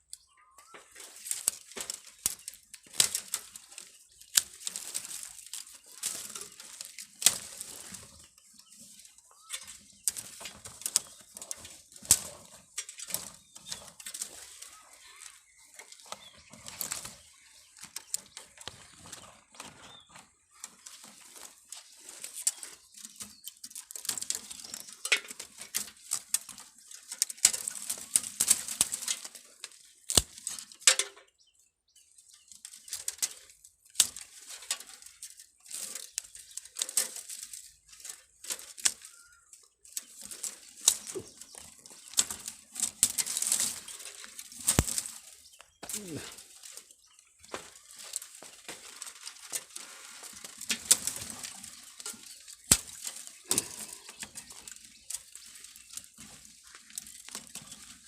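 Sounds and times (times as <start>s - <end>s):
rustling and crackling handling noise: 0.0s - 58.0s.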